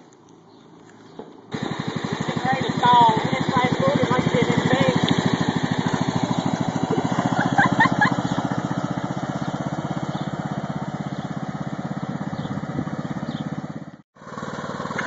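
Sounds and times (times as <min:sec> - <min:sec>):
small engine chugging: 0:01.5 - 0:15.0.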